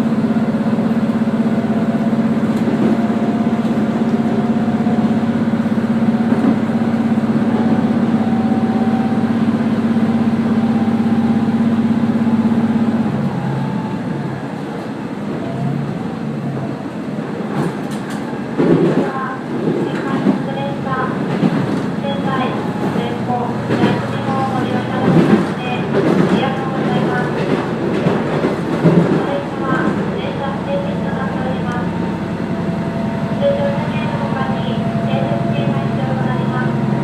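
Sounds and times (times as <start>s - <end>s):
train engine drone: 0.0s - 37.0s
wheels rumbling on rails: 0.0s - 37.0s.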